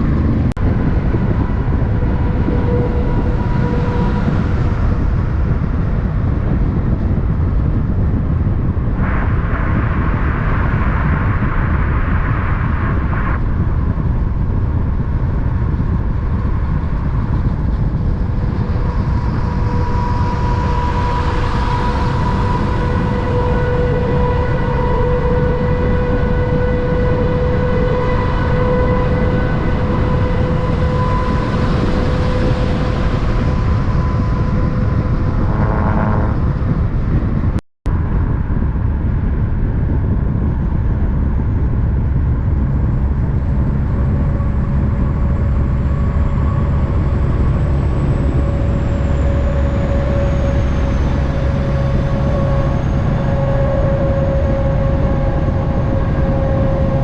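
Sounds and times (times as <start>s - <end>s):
steady engine whine: 0.0s - 57.0s.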